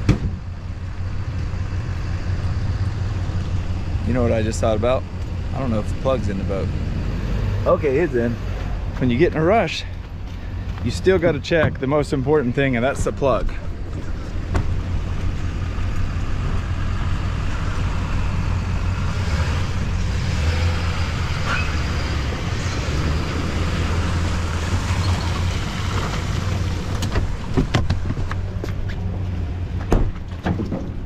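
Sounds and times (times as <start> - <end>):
truck engine running low: 0.0 - 31.0.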